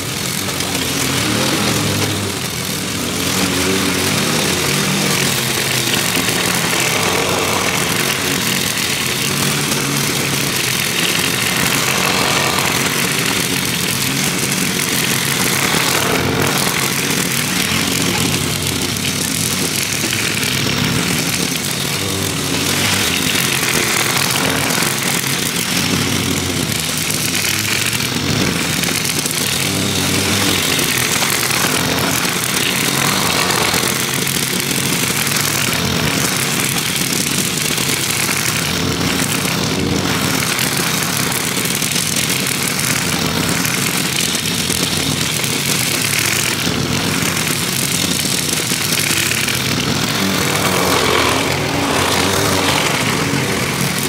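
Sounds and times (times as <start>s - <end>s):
lawn mower engine cutting grass: 0.0s - 54.0s.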